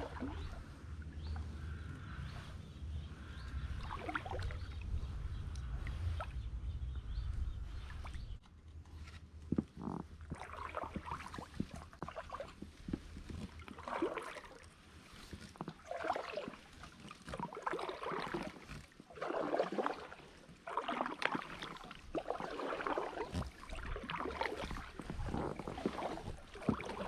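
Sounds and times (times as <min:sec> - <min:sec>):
paddle splashing in water: 0:00.0 - 0:06.5, 0:07.2 - 0:27.0.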